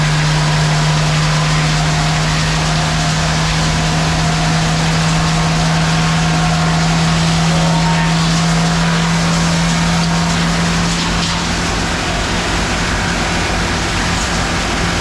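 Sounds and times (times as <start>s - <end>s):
lumber edger running: 0.0s - 15.0s.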